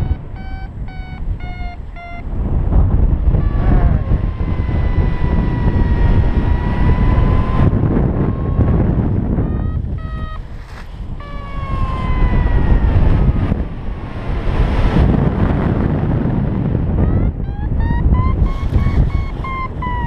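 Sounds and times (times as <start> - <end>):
variometer beeping: 0.0 - 13.6, 16.9 - 20.0
wind rush on microphone: 0.0 - 20.0.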